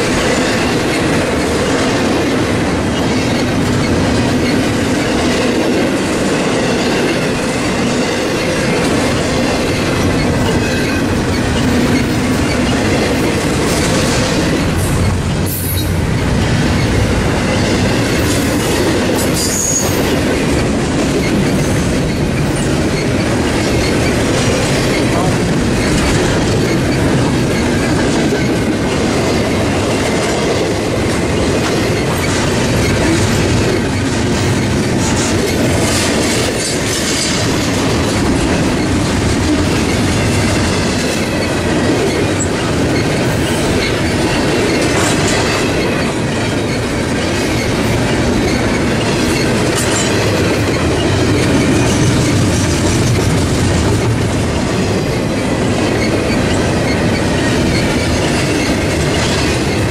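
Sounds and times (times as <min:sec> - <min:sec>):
clickety-clack over rail joints: 0:00.0 - 0:59.9
train wheels rumbling on rail: 0:00.0 - 0:59.9.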